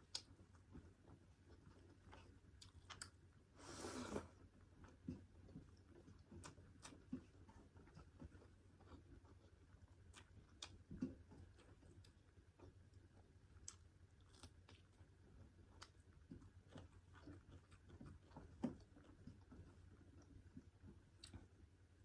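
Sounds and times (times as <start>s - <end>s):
person chewing food: 0.0s - 3.3s, 3.9s - 21.7s.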